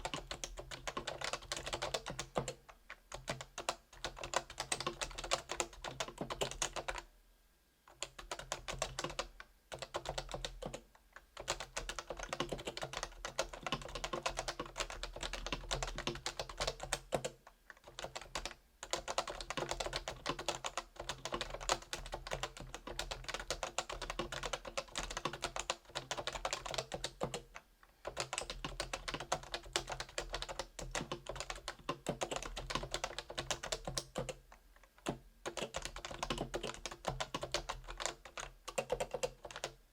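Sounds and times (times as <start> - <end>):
fast typing on keyboard: 0.0 - 7.0, 7.9 - 39.8.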